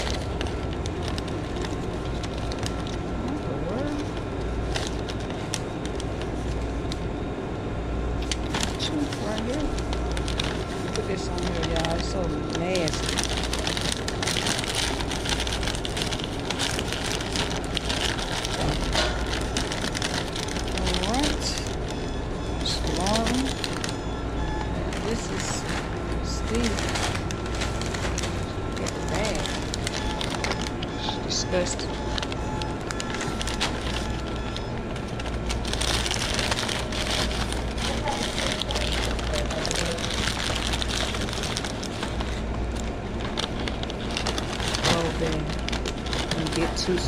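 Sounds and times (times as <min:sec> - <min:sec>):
paper bag rustling: 0:00.0 - 0:07.1, 0:08.2 - 0:24.0, 0:24.7 - 0:47.0
steady low hum: 0:00.0 - 0:47.0.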